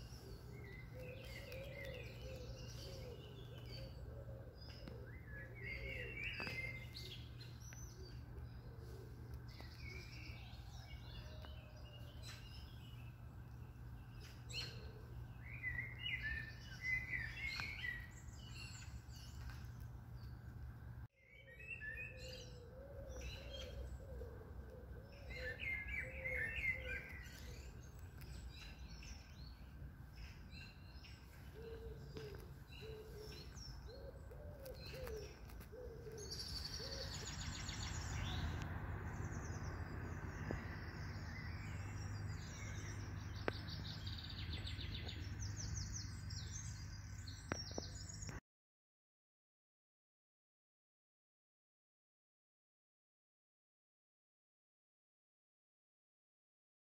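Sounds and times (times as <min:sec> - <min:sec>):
low wavering bird calls: 0:00.0 - 0:19.8, 0:21.2 - 0:48.4
birds singing and chirping: 0:00.0 - 0:48.4.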